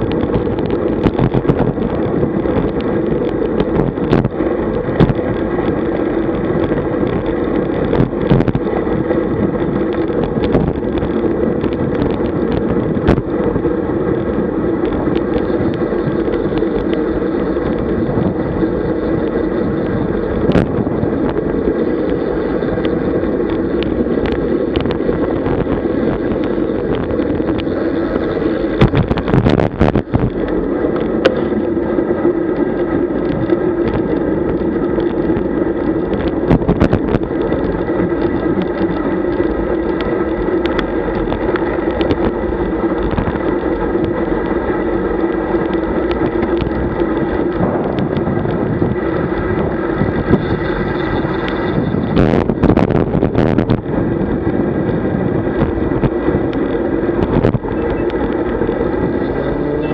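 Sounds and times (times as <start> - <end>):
tyre and road noise: 0.0 - 59.9
wind rushing over microphone: 0.0 - 59.9.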